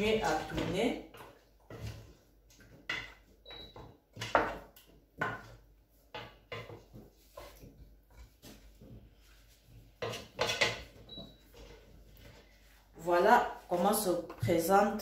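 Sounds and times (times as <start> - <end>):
wooden spoon scraping a pot: 0.0 - 14.4.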